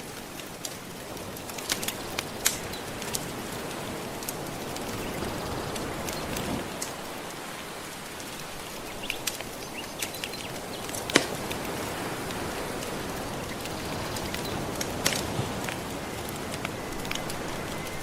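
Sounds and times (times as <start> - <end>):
soft waves washing on shore: 0.0 - 18.0
wood fire crackling: 0.0 - 18.0.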